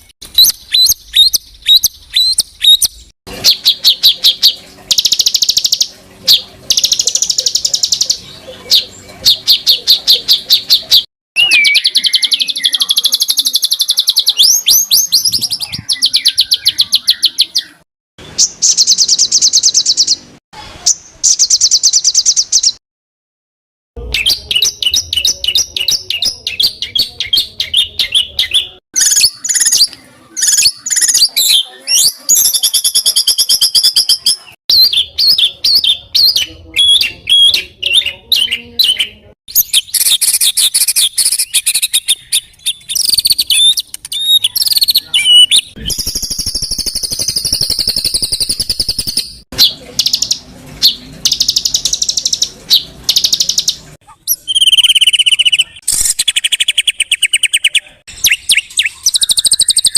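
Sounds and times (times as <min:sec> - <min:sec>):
songbird trills and chirps: 0:00.4 - 0:17.8, 0:24.1 - 0:59.9.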